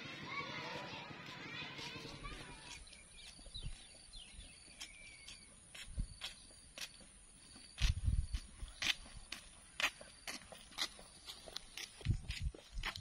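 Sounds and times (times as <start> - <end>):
footsteps on concrete: 0.0 - 13.0.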